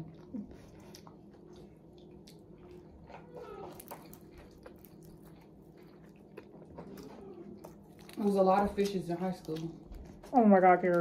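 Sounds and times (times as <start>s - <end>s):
people eating: 0.0s - 11.0s.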